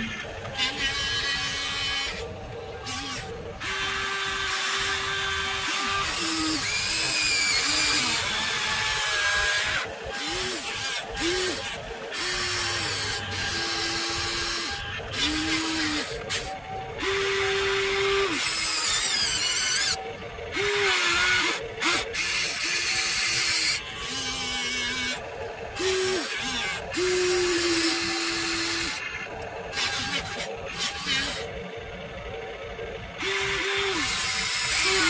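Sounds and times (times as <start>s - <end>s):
toy electric motors whining: 0.0s - 35.0s.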